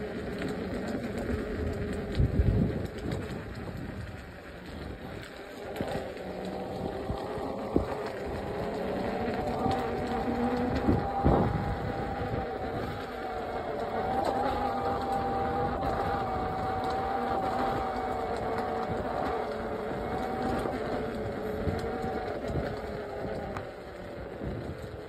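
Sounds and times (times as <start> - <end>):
low rumbling noise: 0.0 - 25.0
mechanical drone: 0.0 - 25.0.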